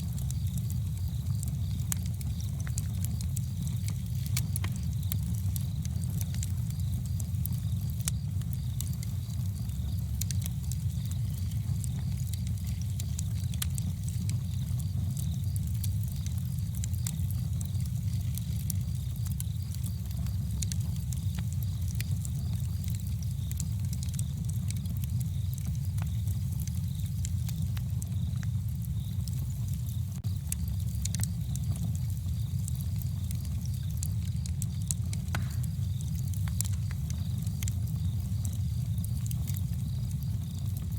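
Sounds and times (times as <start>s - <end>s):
campfire crackling and popping: 0.0s - 40.9s
low fire rumble: 0.0s - 40.9s.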